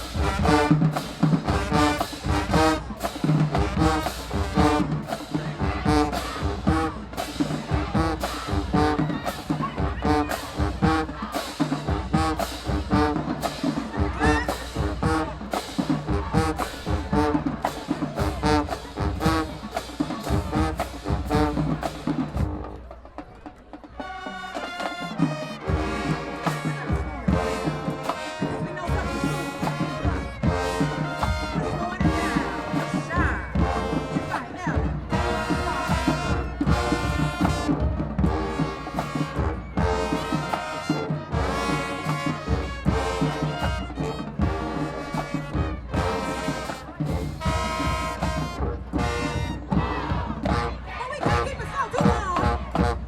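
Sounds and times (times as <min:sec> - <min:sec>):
brass section blasts: 0:00.0 - 0:22.8, 0:24.0 - 0:53.0
marching drums: 0:00.0 - 0:53.0.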